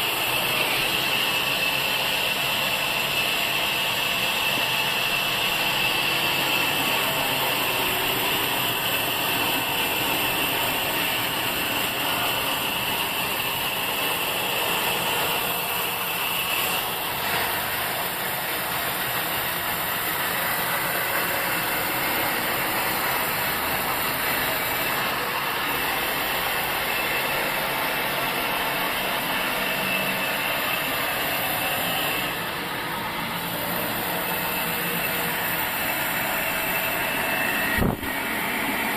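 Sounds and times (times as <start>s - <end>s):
high whine: 0.0s - 38.9s
sawmill machinery running: 0.0s - 38.9s.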